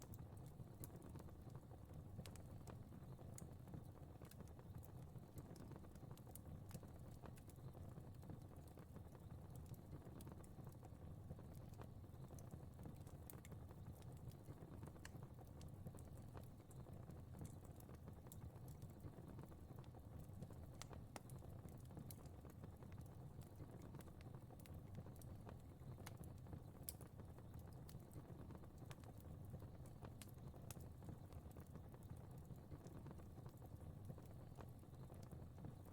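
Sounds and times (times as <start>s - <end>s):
fire burning with crackles: 0.0s - 35.9s.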